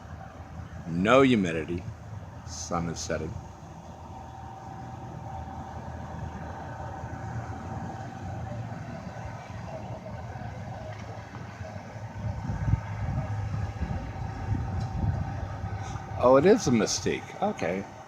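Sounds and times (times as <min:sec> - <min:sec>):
engine rumble: 0:00.0 - 0:18.0.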